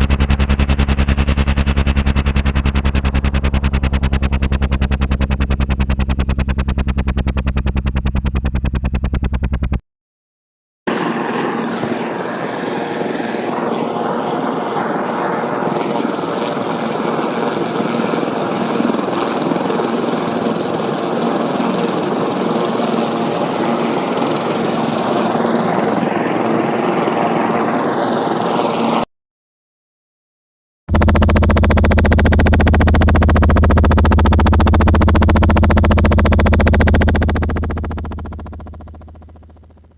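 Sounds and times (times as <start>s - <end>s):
helicopter rotor and engine: 0.0s - 9.8s, 10.9s - 29.1s, 30.9s - 39.9s.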